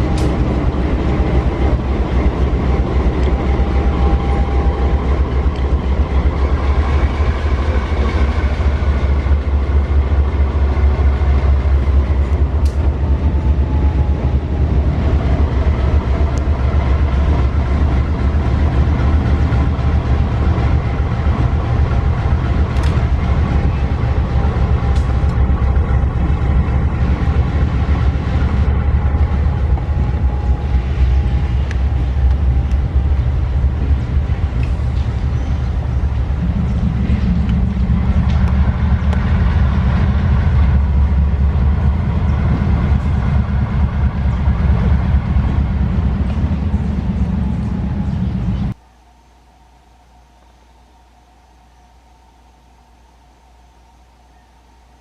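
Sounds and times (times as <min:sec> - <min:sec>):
diesel locomotive rumbling: 0:00.0 - 0:49.0
faint steady tones: 0:00.0 - 0:55.0.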